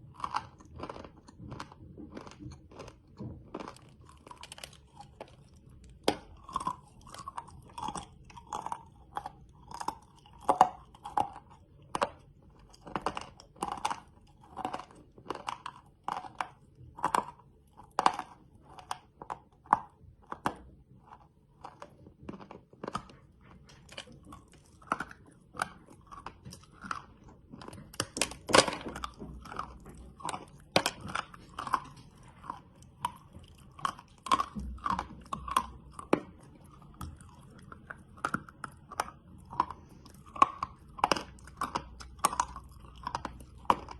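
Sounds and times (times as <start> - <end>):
chewing crunchy candy: 0.0 - 43.9.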